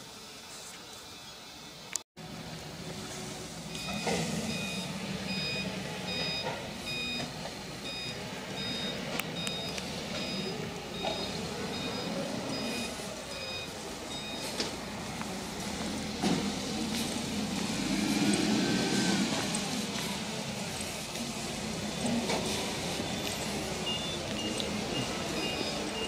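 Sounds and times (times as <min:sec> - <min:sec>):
engine running: 0:02.2 - 0:26.0
vehicle reversing alarm beeping: 0:03.0 - 0:26.0.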